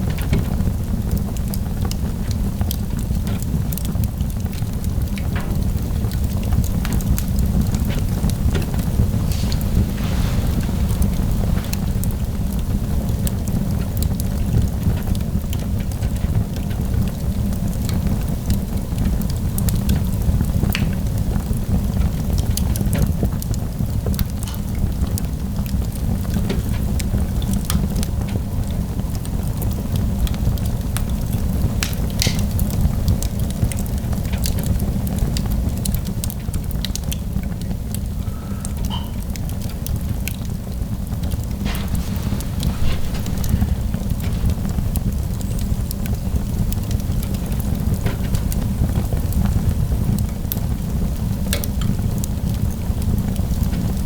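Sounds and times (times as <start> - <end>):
fire low rumble: 0.0 - 54.0
wood fire crackling and popping: 0.0 - 54.0.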